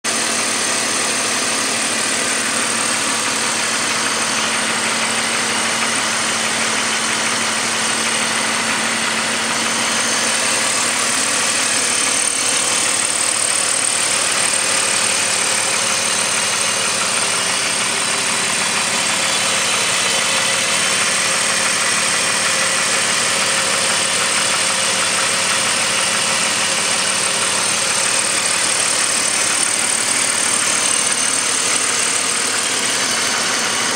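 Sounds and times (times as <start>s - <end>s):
engine knocking noise: 0.0s - 33.9s
car engine running: 0.1s - 33.9s.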